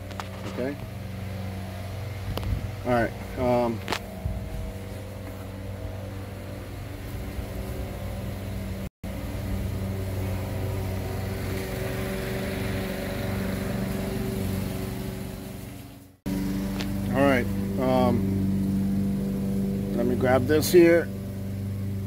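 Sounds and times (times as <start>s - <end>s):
motor humming: 0.0s - 22.0s.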